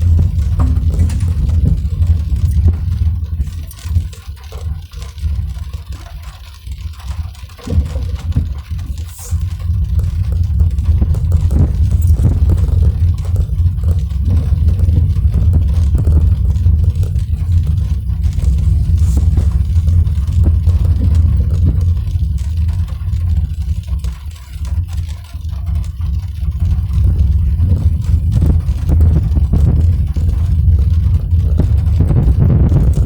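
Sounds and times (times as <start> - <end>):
road and engine rumble: 0.0 - 5.9, 7.4 - 33.0
raindrops ticking on car: 0.0 - 33.0.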